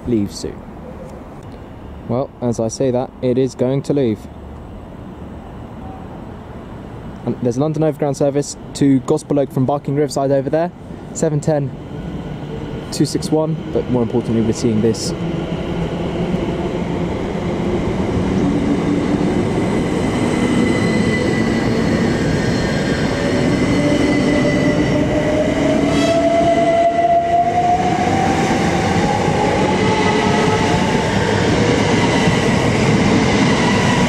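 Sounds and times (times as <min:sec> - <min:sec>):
train rumble: 0:02.3 - 0:34.0.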